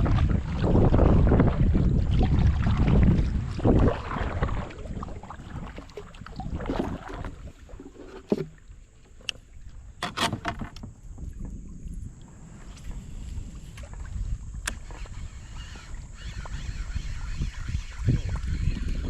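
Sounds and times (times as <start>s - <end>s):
wind rumble on microphone: 0.0s - 8.8s, 9.4s - 19.0s
paddle splashing in water: 0.0s - 19.0s.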